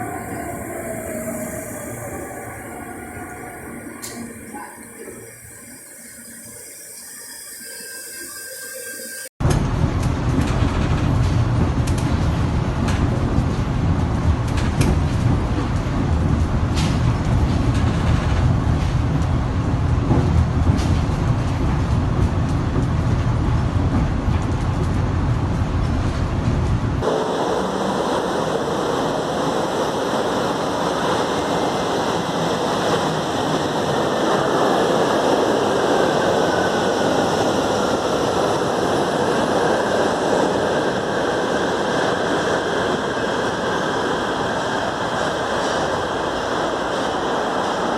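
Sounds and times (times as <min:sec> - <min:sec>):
train running with low rumble: 0:00.0 - 0:47.9.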